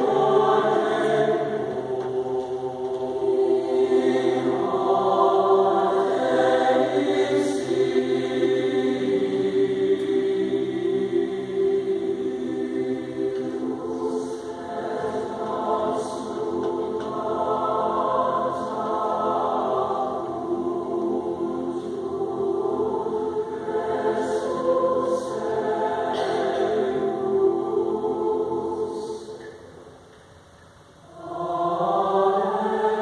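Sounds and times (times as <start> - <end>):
choir singing sustained chords: 0.0 - 30.1, 30.9 - 33.0.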